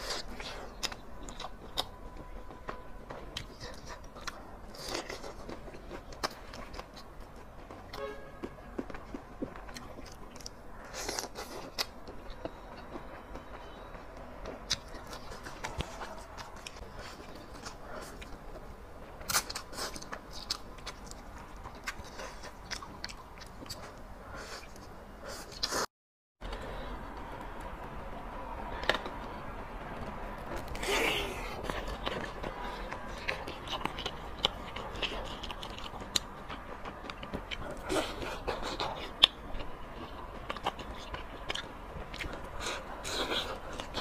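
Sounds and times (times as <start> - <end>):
person chewing with mouth clicks: 0.0 - 18.6, 19.2 - 26.6, 30.4 - 44.0.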